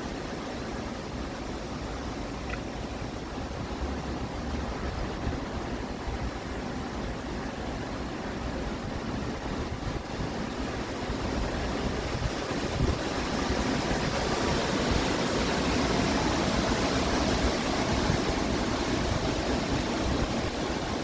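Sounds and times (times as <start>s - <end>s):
strong wind blowing: 0.0s - 21.0s
wind buffeting microphone: 0.0s - 21.0s.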